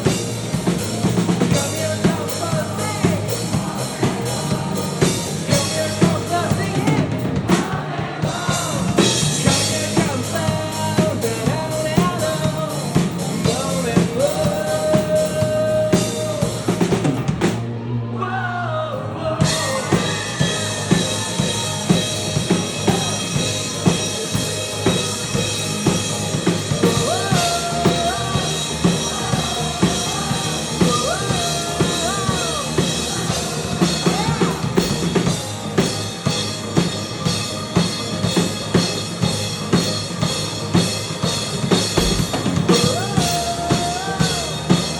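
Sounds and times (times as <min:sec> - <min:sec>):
drum kit beat: 0:00.0 - 0:17.6, 0:19.4 - 0:44.9
live rock band: 0:00.0 - 0:17.7, 0:19.4 - 0:44.9
person singing lead vocal: 0:00.8 - 0:17.3, 0:18.1 - 0:25.4, 0:26.4 - 0:35.9, 0:42.0 - 0:44.9.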